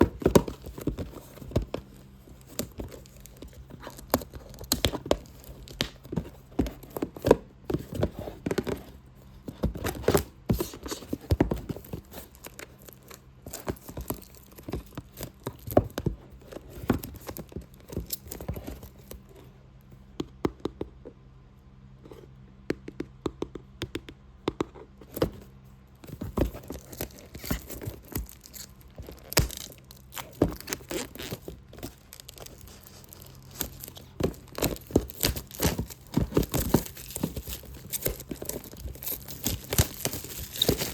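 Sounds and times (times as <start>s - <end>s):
tapping and scratching on a box: 0.0s - 21.2s, 22.0s - 40.9s.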